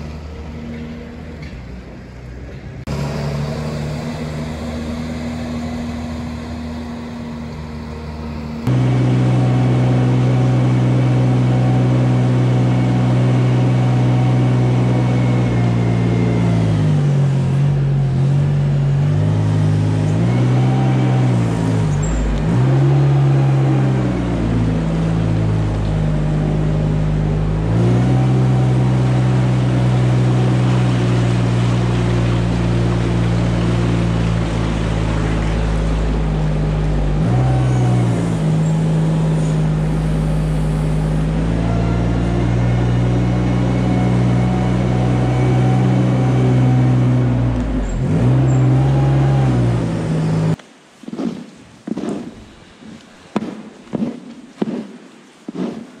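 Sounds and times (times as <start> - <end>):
loader engine running: 0.0 - 50.6.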